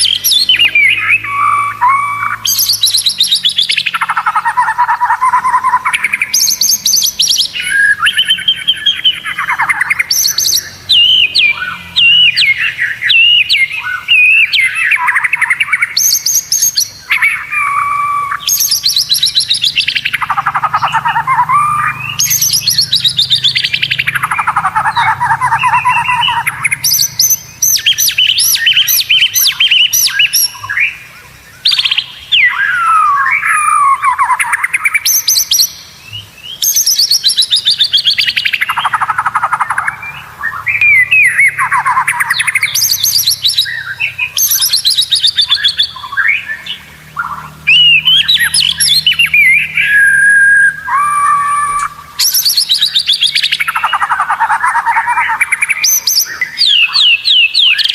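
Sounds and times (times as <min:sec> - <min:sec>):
bird singing trills and whistles: 0:00.0 - 0:57.9.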